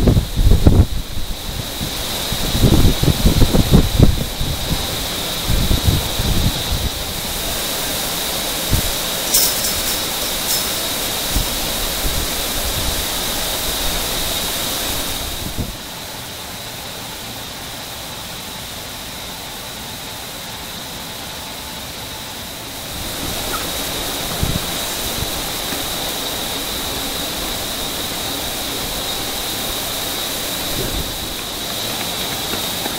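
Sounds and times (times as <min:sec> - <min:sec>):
ventilation machinery rushing: 0:00.0 - 0:32.9.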